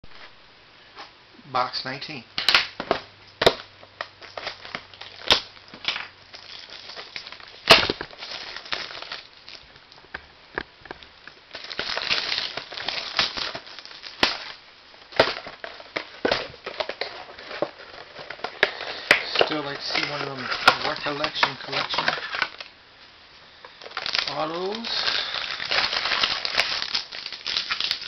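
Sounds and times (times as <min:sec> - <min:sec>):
plastic wrapping tearing and crinkling: 0:02.4 - 0:10.1, 0:10.9 - 0:22.8, 0:23.6 - 0:28.0.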